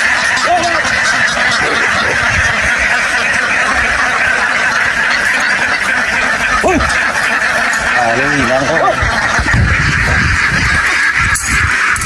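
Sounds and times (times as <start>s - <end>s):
drawn-out duck call: 0.0s - 12.0s
flock of ducks quacking: 0.0s - 12.0s.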